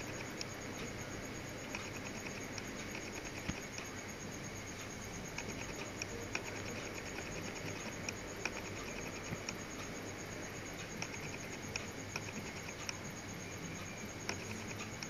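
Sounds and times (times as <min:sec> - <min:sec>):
faint irregular clicks: 0:00.0 - 0:15.0
steady background hiss: 0:00.0 - 0:15.0.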